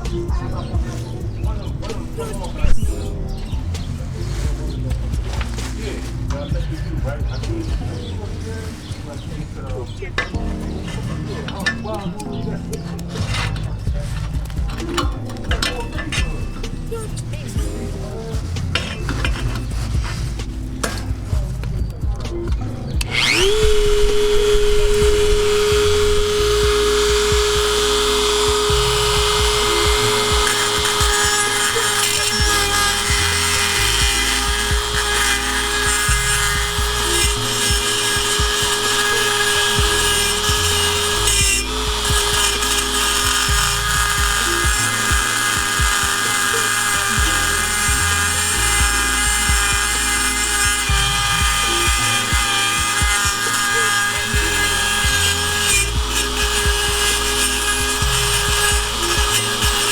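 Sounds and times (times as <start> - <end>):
rotary tool grinding metal pipe: 0.0 - 59.9.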